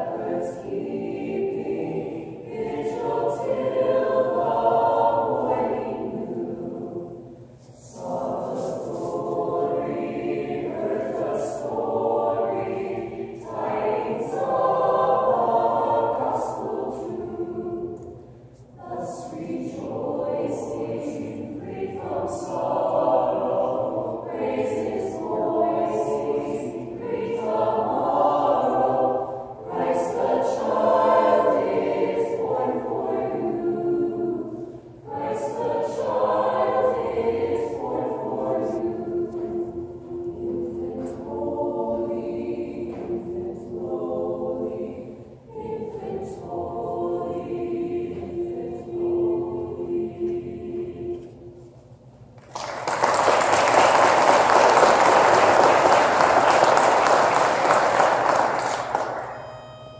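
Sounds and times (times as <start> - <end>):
choir singing a cappella: 0.0 - 52.2, 52.9 - 59.9.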